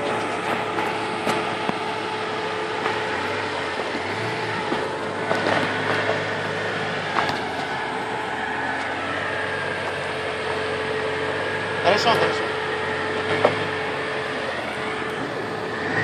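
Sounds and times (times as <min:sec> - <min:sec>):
vehicle engine running at low revs: 0:00.0 - 0:16.0.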